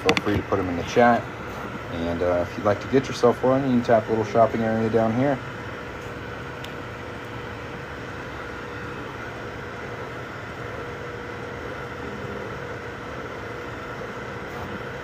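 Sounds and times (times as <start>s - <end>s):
stepper motor whine: 0.0s - 15.0s.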